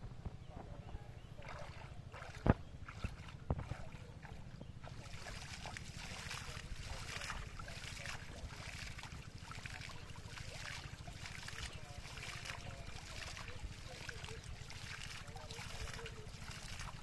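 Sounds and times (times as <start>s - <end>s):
shallow water splashing: 1.4s - 17.0s.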